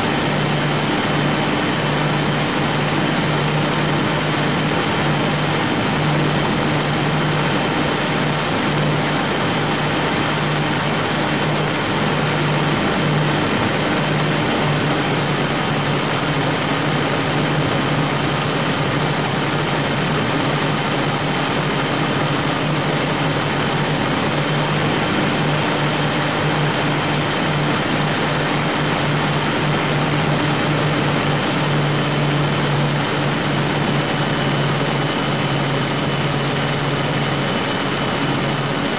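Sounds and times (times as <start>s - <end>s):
broad rushing noise: 0.0s - 38.9s.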